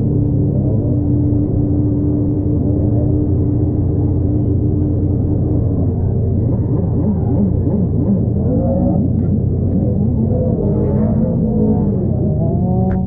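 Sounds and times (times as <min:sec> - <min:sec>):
turbocharged car engine revving: 0:00.0 - 0:13.0.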